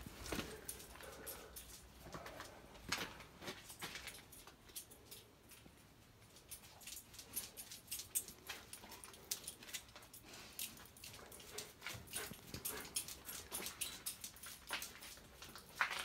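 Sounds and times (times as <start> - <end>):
dog claws clicking and scuffing: 0.1 - 16.0.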